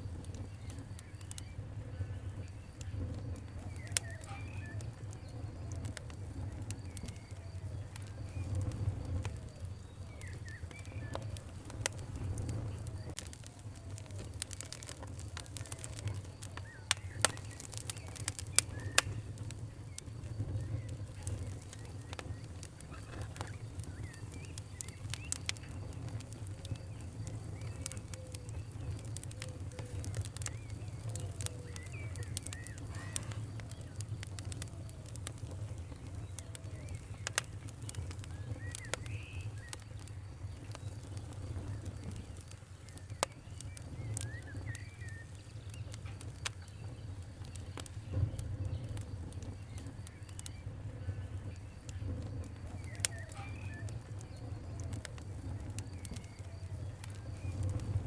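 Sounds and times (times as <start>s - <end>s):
fire crackling and popping: 0.0s - 58.0s
faint birds calling: 0.2s - 58.0s.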